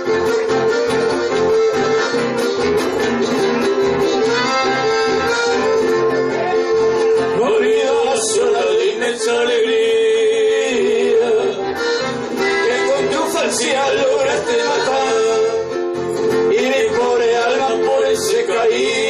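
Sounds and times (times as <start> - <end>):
accordion dance music: 0.0 - 19.0.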